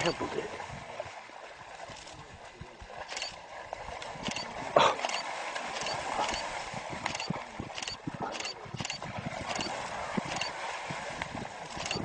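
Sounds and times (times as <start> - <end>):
animal splashing through water: 0.0 - 12.0.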